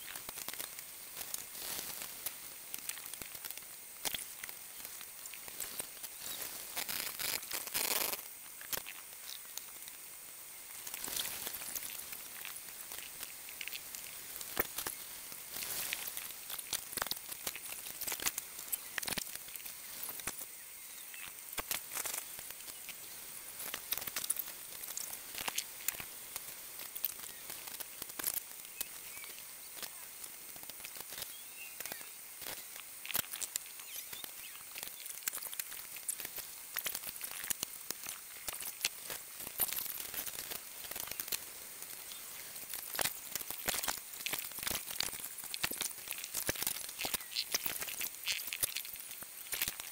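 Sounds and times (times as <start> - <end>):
steady high hiss: 0.0 - 49.9.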